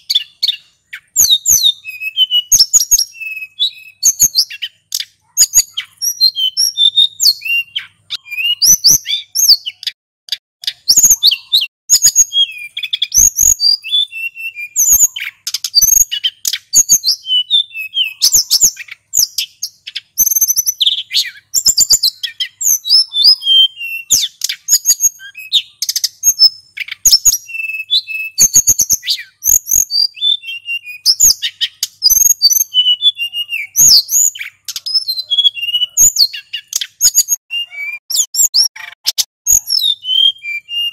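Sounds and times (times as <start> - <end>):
songbird singing chirps and trills: 0.0 - 40.9.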